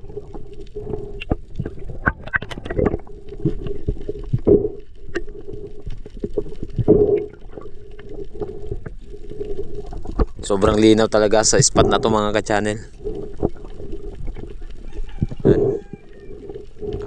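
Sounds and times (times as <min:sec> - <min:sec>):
low underwater hum: 0:00.0 - 0:10.8, 0:11.5 - 0:17.0
gurgling water: 0:00.0 - 0:17.0
sharp clicks and crackles: 0:00.0 - 0:17.0.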